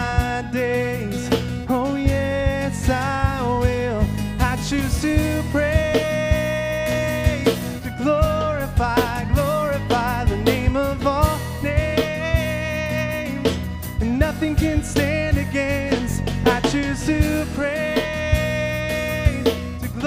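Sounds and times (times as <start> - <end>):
drum kit beat: 0.0 - 20.0
guitar: 0.0 - 20.0
person singing: 0.0 - 20.0.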